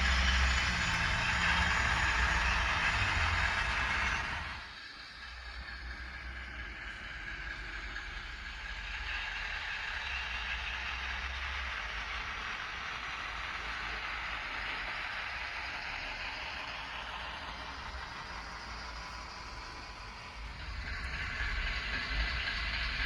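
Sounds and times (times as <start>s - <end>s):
diesel locomotive engine from small speaker: 0.0s - 23.0s.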